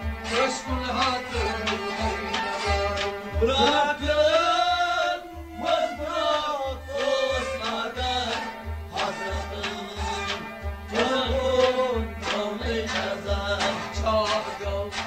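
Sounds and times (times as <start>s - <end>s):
man singing: 0.2s - 15.0s.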